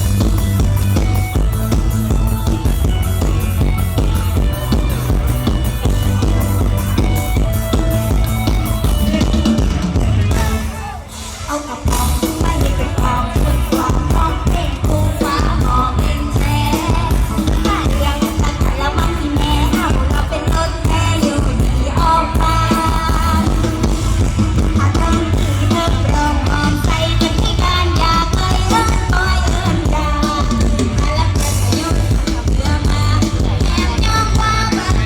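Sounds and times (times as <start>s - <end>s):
drum kit and bass beat: 0.0s - 35.0s
person singing: 0.0s - 35.0s.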